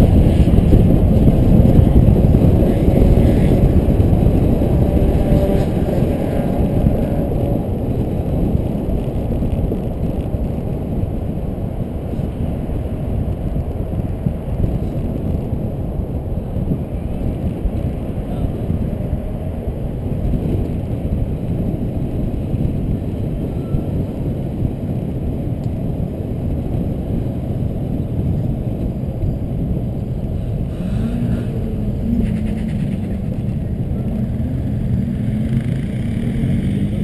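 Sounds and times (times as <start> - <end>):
tyre and engine rumble: 0.0 - 37.0
wind rushing over camera: 0.0 - 37.0.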